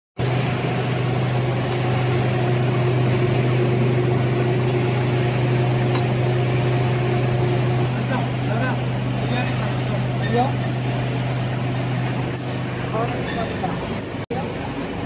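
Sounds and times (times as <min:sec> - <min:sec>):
machine low hum: 0:00.2 - 0:15.0.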